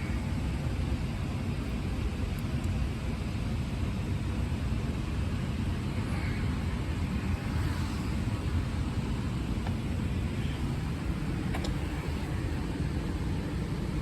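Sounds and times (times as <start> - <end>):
engine and road noise rumble: 0.0 - 14.0.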